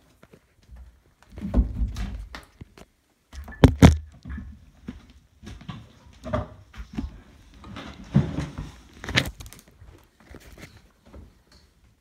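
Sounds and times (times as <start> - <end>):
footsteps going down stairs: 0.0 - 10.2.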